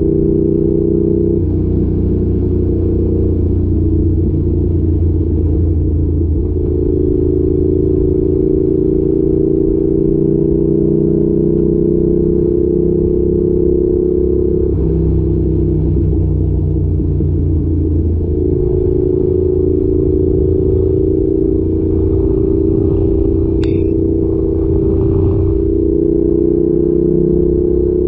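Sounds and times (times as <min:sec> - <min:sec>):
motorcycle engine while riding: 0:00.0 - 0:28.0.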